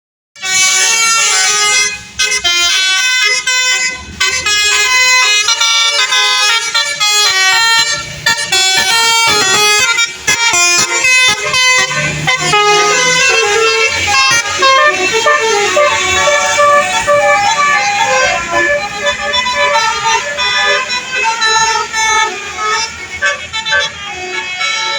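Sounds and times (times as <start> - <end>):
bus horns playing melodies: 0.4 - 24.9.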